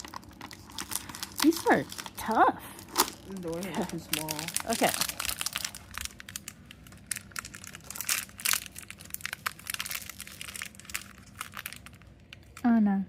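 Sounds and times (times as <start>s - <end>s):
cardboard crinkling and tearing: 0.0s - 12.0s.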